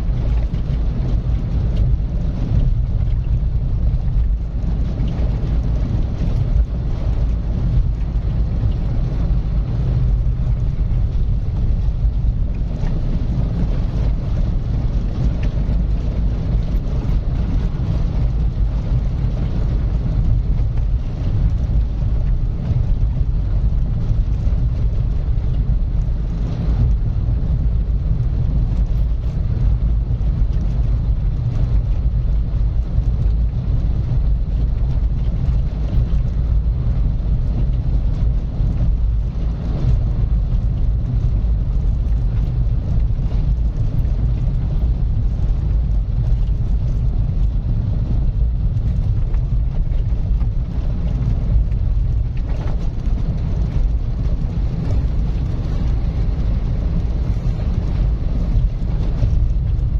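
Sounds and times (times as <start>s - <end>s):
car driving: 0.0s - 59.9s.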